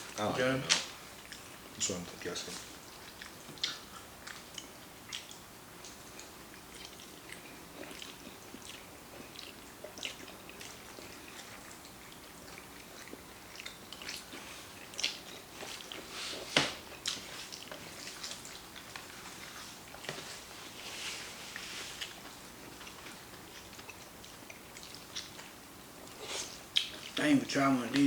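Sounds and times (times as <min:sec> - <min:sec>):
chewing with wet smacks: 0:00.0 - 0:28.0.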